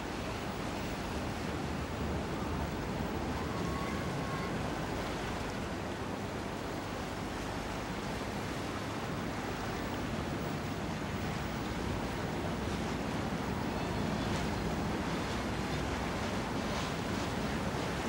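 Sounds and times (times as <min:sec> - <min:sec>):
sea water rushing: 0:00.0 - 0:18.0
wind: 0:00.0 - 0:18.0.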